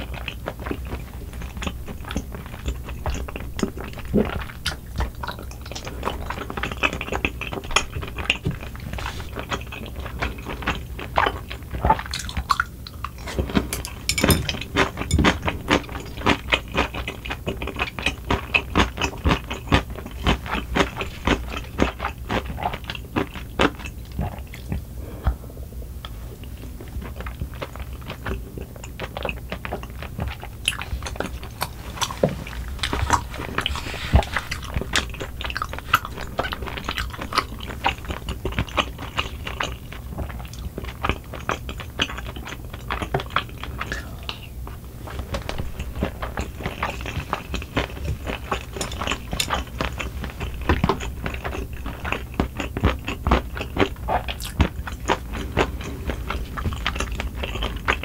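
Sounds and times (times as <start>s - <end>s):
person chewing with wet smacks: 0.0s - 58.0s.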